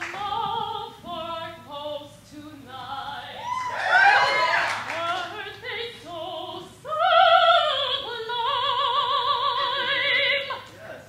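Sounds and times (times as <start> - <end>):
woman singing opera: 0.0 - 11.0.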